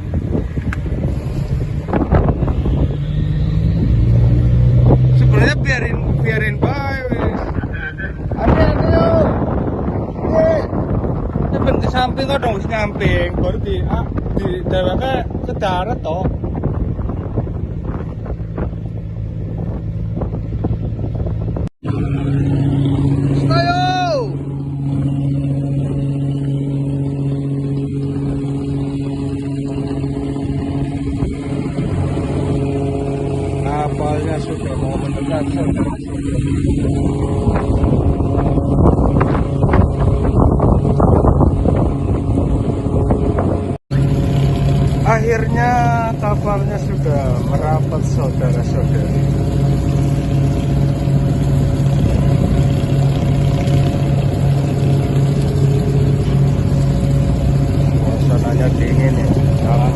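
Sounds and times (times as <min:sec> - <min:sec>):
boat engine humming: 0:00.0 - 0:59.9.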